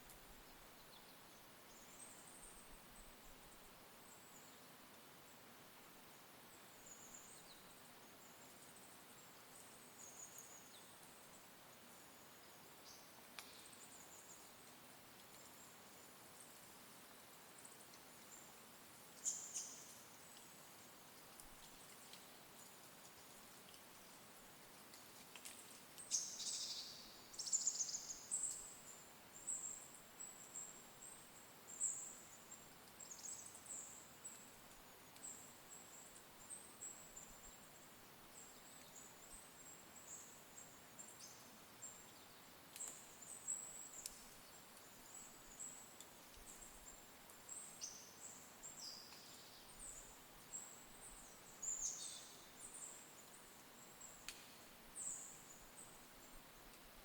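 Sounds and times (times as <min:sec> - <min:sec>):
faint hiss: 0:00.0 - 0:57.0
small songbirds chirping: 0:00.0 - 0:57.0.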